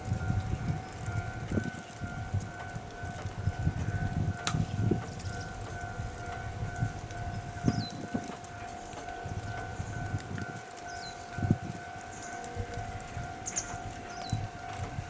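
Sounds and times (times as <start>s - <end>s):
low gusty rumble: 0.0s - 15.0s
level crossing alarm dinging: 0.2s - 15.0s.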